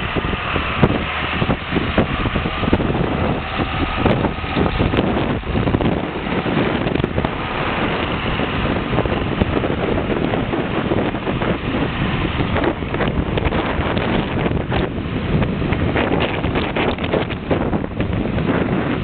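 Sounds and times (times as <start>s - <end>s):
tractor engine running: 0.0s - 19.0s
wind buffeting microphone: 0.0s - 19.0s.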